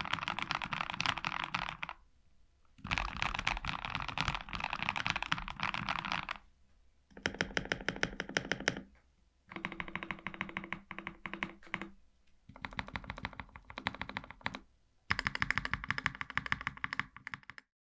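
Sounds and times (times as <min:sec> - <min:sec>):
rapid mechanical keyboard typing: 0:00.0 - 0:02.0, 0:02.8 - 0:06.4, 0:07.1 - 0:08.8, 0:09.5 - 0:17.7.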